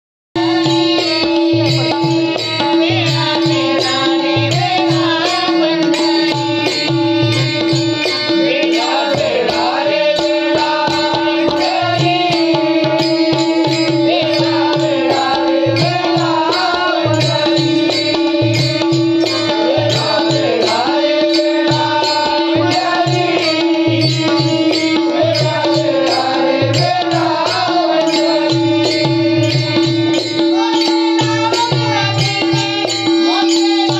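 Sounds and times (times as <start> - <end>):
hand drum beat: 0.4 - 33.9
person singing: 0.4 - 33.9.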